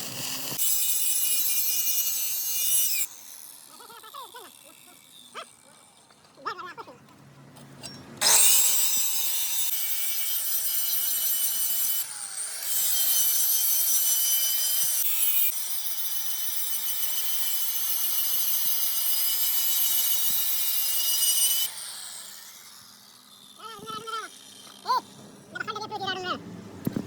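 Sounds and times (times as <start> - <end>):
power tool grinding metal: 0.0 - 6.4, 8.2 - 25.9.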